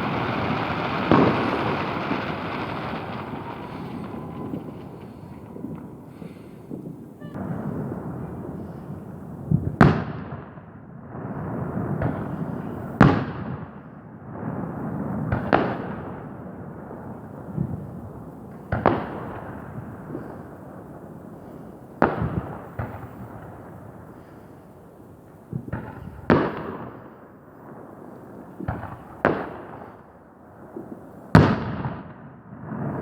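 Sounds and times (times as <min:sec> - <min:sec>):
fireworks bangs: 0:00.0 - 0:33.0
rumble of fireworks bursts: 0:00.0 - 0:33.0.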